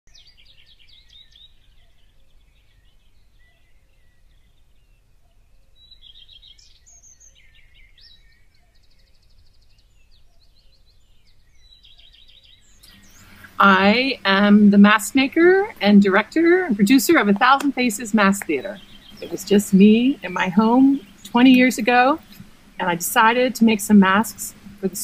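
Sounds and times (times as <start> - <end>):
songbirds chirping and trilling: 0.1 - 25.0.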